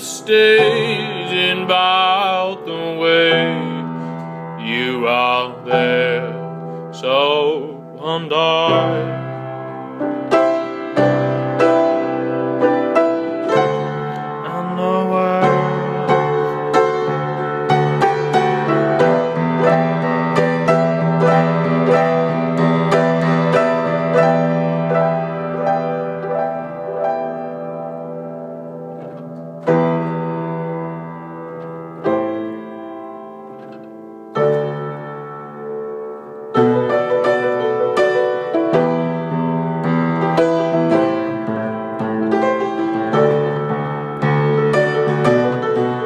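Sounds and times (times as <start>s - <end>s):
piano chords: 0.0s - 46.0s.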